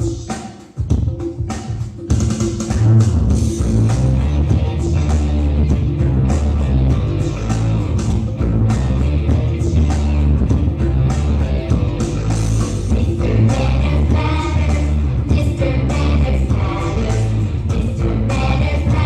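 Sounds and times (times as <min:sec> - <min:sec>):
dance music with drum beat: 0:00.0 - 0:19.0.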